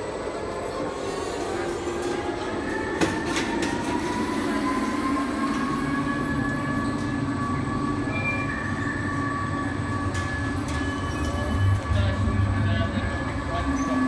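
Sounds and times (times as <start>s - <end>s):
carousel machinery rumble: 0.0s - 14.0s
thin mechanical whine: 0.0s - 14.0s.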